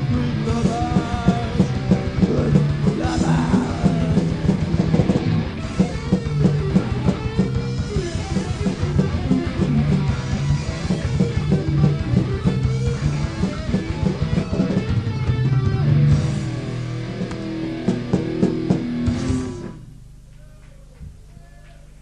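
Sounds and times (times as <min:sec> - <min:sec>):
punk rock band playing live: 0:00.0 - 0:19.8.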